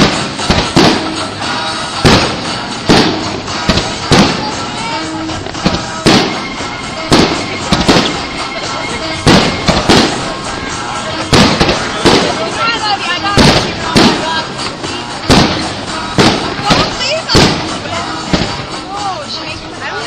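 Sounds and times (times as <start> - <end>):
fireworks bursting: 0.0 - 19.9
steady music: 0.0 - 20.0.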